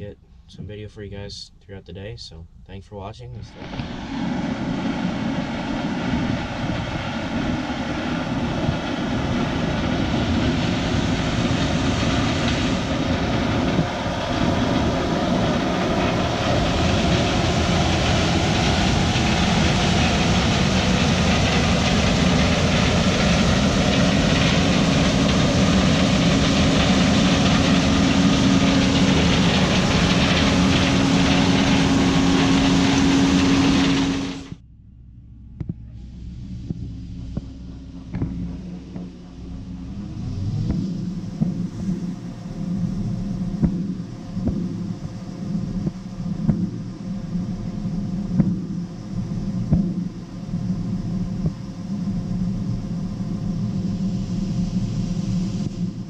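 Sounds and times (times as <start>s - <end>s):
steady hum: 0.0s - 56.0s
diesel engine running under load: 3.5s - 56.0s.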